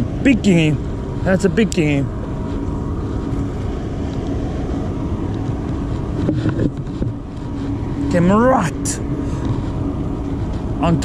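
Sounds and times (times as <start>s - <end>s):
faint constant hum: 0.0s - 11.0s
low engine drone: 0.0s - 11.0s.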